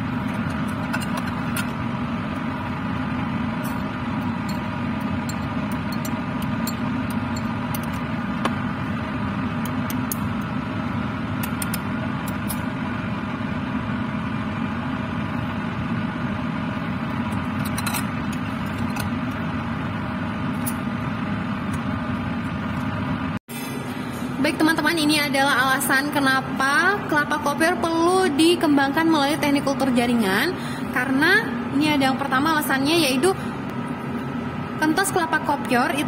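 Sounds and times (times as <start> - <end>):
blower fan droning: 0.0 - 36.0.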